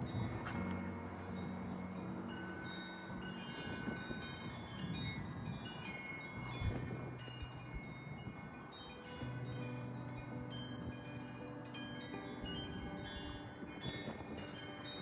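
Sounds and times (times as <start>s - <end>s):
chimes tinkling: 0.0s - 15.0s.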